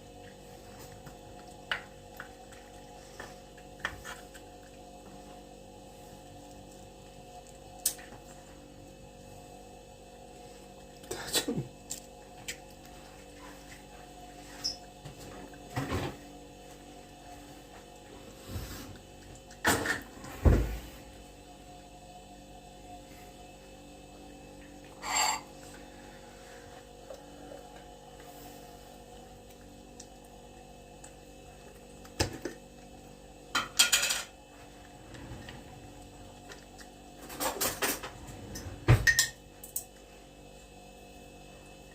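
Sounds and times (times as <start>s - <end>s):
faint electrical hum: 0.0s - 41.9s.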